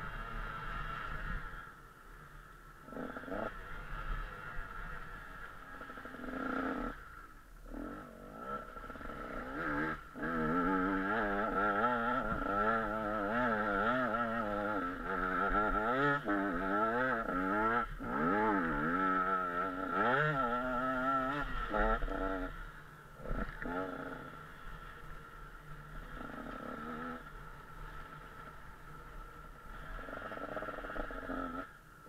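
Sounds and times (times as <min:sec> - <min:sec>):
two-stroke motocross engine revving: 0:02.7 - 0:31.8.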